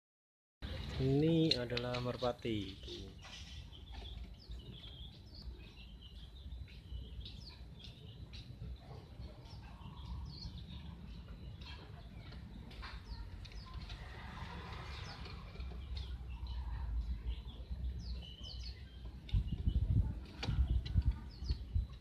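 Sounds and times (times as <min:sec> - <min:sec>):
small birds chirping: 0:00.6 - 0:22.0.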